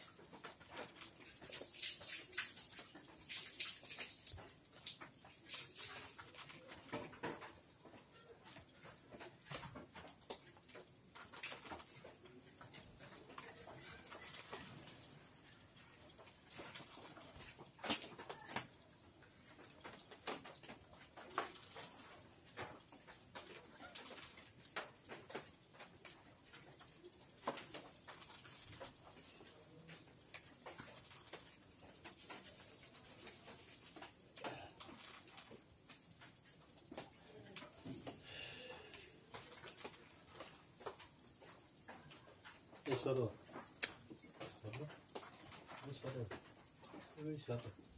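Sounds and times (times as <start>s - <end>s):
animals scratching and rustling: 0.0s - 38.2s, 38.9s - 47.9s.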